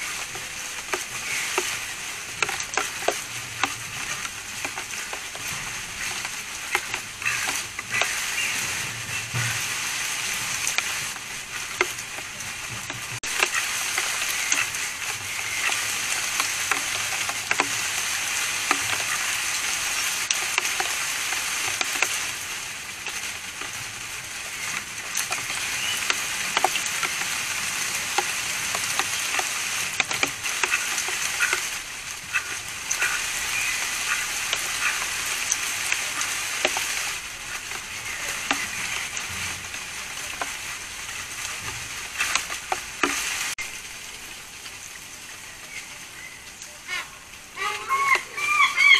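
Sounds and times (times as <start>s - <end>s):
steady hiss: 0.0s - 48.6s.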